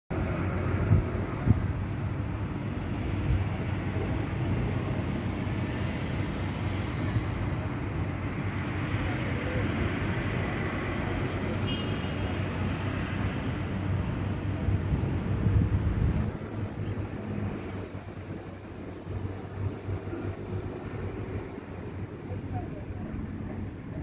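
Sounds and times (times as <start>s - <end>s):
distant city traffic rumble: 0.1s - 24.0s.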